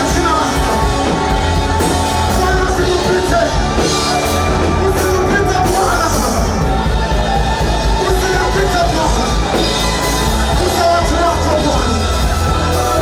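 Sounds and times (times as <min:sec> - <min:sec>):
live worship music with singing: 0:00.0 - 0:13.0
strong bass: 0:00.0 - 0:13.0.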